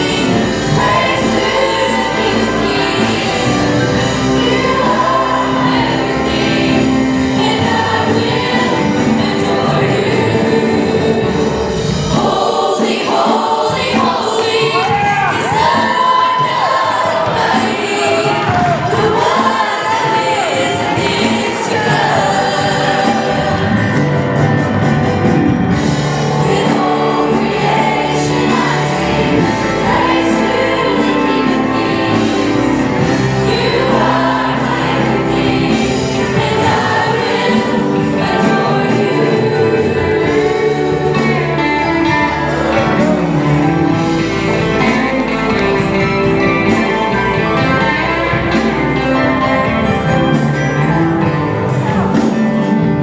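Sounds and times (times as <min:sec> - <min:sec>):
keyboard accompaniment: 0:00.0 - 0:53.0
youth choir singing: 0:00.0 - 0:53.0.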